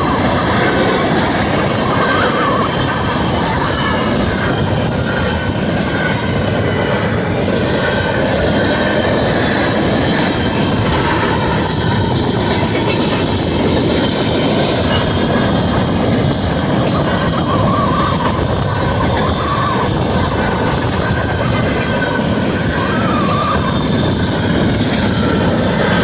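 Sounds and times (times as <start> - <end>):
freight train rumbling past: 0.0 - 26.0
train wheel squeal: 0.0 - 26.0.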